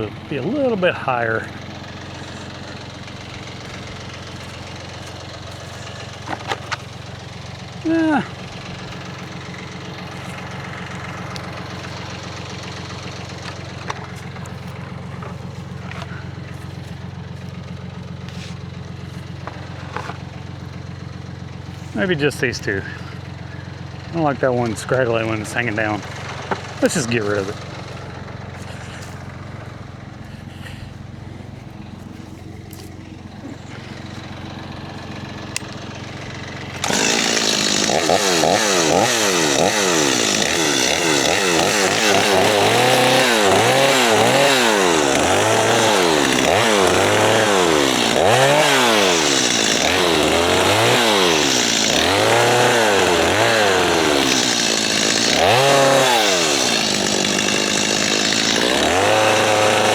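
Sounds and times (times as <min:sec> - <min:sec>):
low engine hum: 0:00.0 - 0:54.4
chainsaw revving and cutting: 0:00.0 - 0:59.9.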